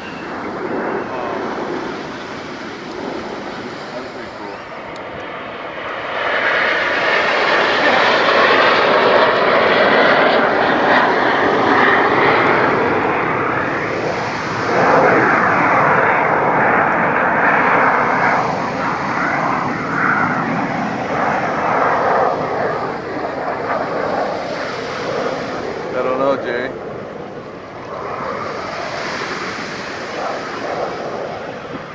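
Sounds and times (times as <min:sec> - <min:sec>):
jets flying past: 0:00.0 - 0:31.9.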